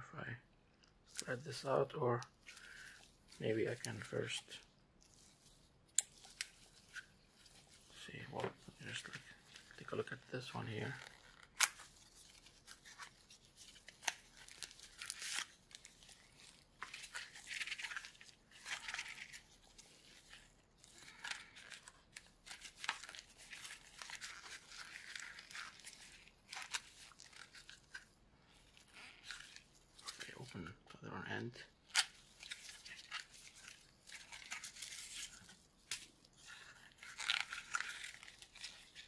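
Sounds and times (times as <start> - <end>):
packaging rustling and scraping: 1.1 - 30.7, 31.7 - 39.0.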